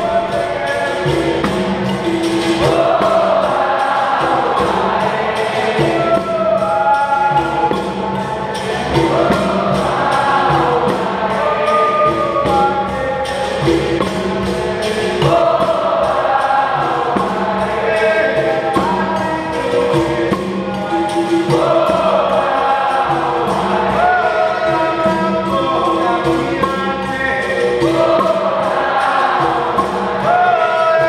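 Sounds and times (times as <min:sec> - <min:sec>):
berimbaus and hand percussion: 0:00.0 - 0:31.0
chorus of voices singing: 0:00.0 - 0:31.0.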